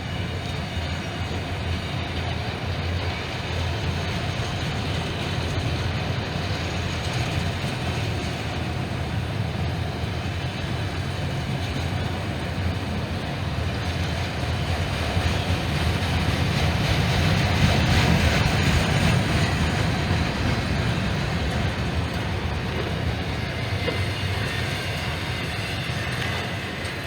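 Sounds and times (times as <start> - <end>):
train rolling past: 0.0 - 27.0.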